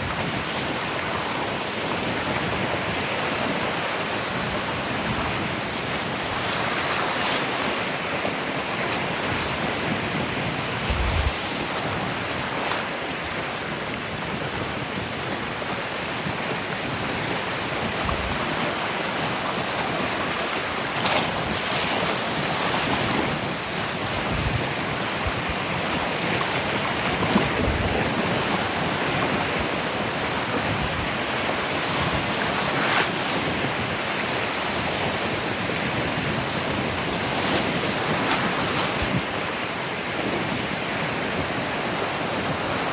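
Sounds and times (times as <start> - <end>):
ocean surf on sandy beach: 0.0 - 42.9
wind buffeting microphone: 4.3 - 42.9.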